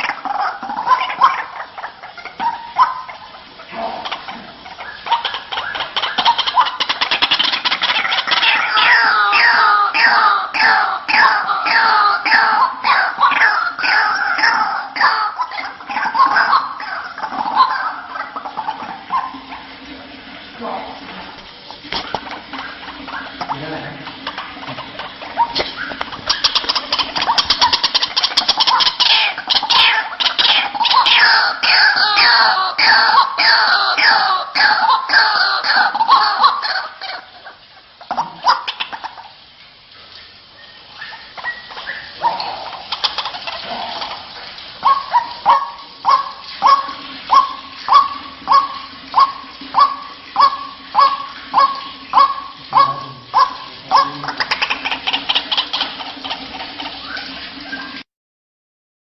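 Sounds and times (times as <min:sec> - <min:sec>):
waterhen calling: 0:00.0 - 0:58.0.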